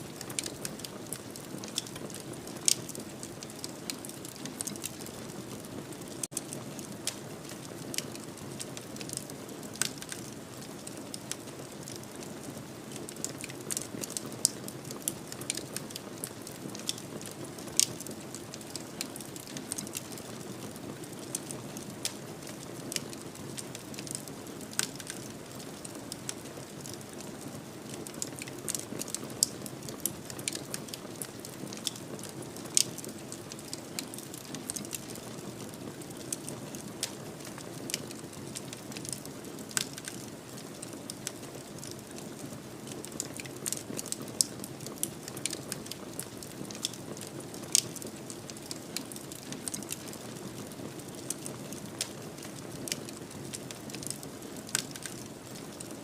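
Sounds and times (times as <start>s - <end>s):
wood fire burning: 0.0s - 56.0s.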